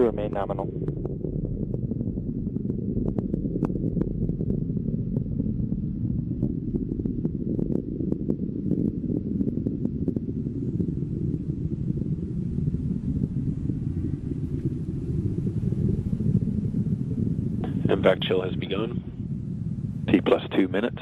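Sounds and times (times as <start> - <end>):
rocket engine rumble: 0.0 - 21.0
sharp crackles: 0.0 - 21.0.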